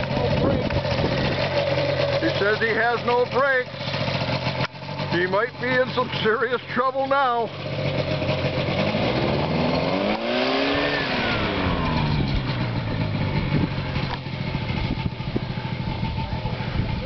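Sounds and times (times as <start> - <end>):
ultralight aircraft engine running: 0.0 - 17.0.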